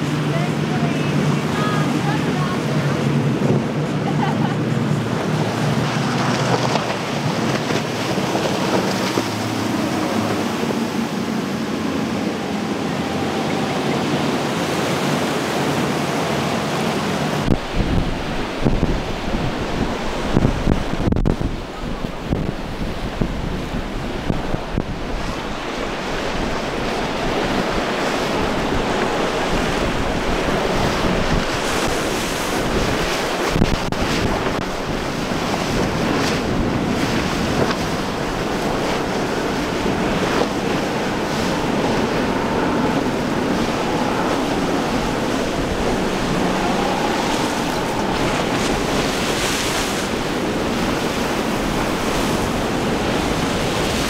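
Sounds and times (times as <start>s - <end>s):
outboard motor running: 0.0s - 54.0s
surf churning: 0.0s - 54.0s
wind buffeting microphone: 0.0s - 54.0s.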